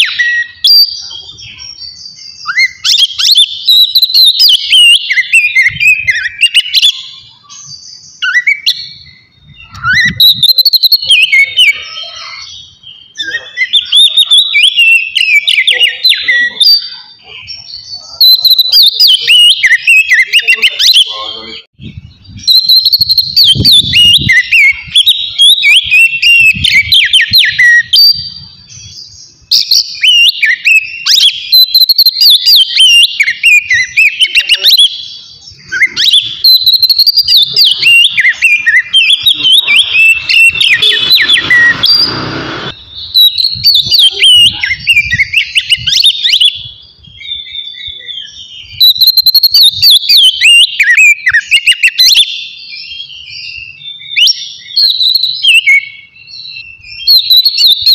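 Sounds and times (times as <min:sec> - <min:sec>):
bird singing whistled phrases: 0:00.0 - 0:57.9.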